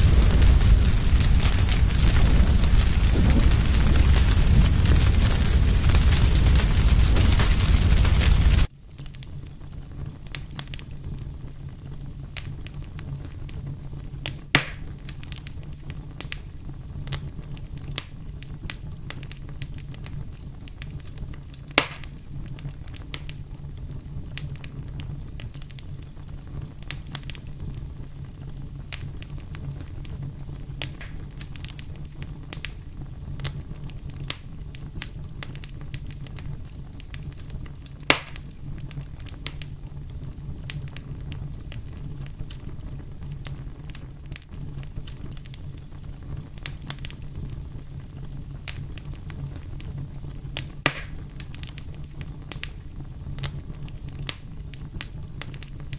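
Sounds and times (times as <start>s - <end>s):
campfire crackling and popping: 0.0s - 55.9s
low fire rumble: 0.0s - 55.9s.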